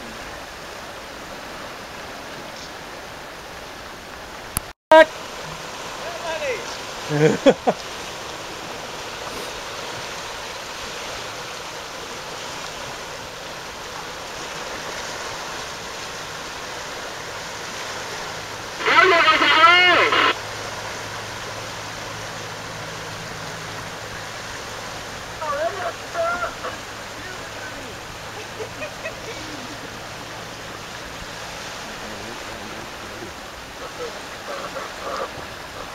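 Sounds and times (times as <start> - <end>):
tidal current rushing: 0.0 - 35.9.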